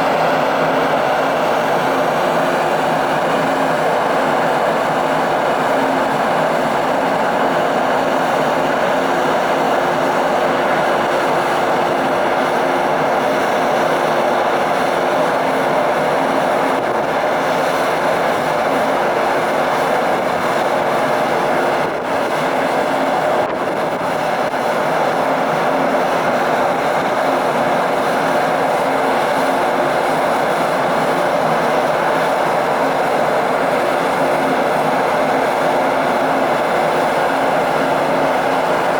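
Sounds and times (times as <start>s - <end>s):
rushing water noise: 0.0s - 38.9s.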